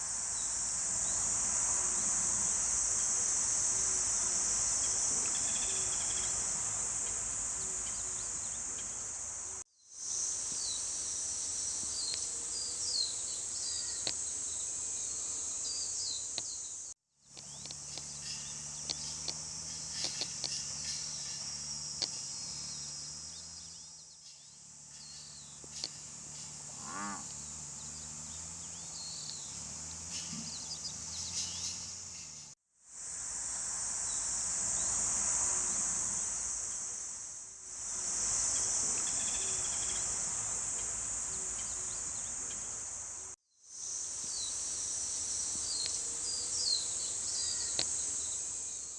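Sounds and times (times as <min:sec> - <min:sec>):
cicadas droning: 0:00.0 - 0:48.9.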